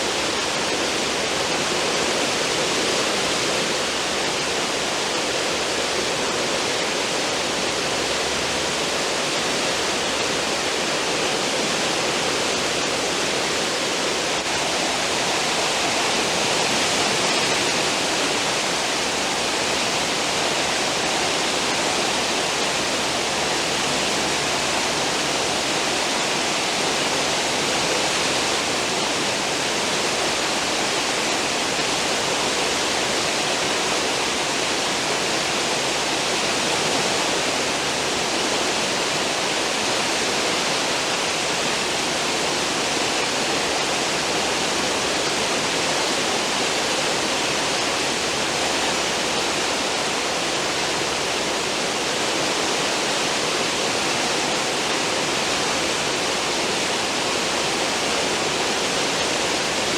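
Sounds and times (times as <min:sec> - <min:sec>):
foaming water rushing: 0:00.0 - 0:59.9.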